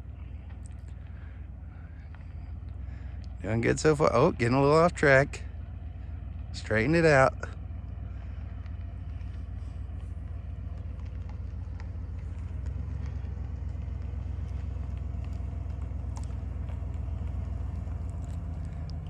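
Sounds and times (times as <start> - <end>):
truck engine at low revs: 0.0 - 19.0.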